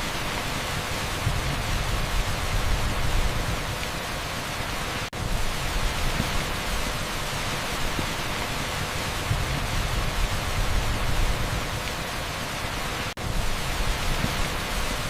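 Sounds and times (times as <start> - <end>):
pink noise hiss: 0.0 - 15.0
torrential rain on a street: 0.0 - 15.0.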